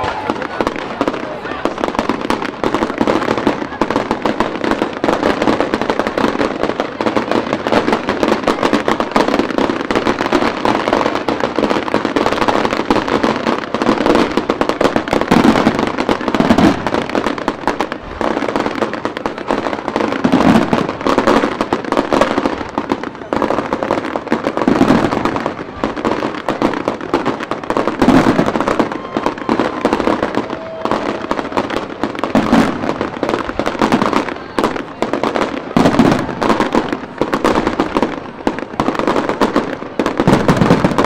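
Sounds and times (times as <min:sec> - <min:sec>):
fireworks crackling: 0:00.0 - 0:41.0.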